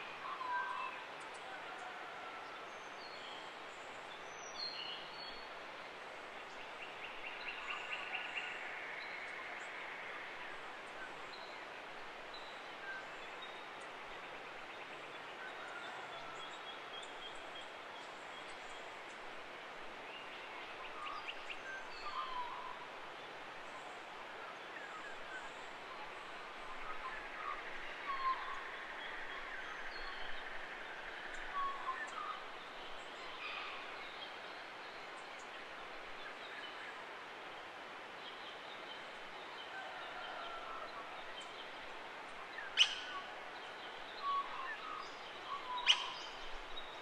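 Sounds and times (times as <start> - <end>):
forest birds chirping: 0.0 - 47.0
steady background hiss: 0.0 - 47.0.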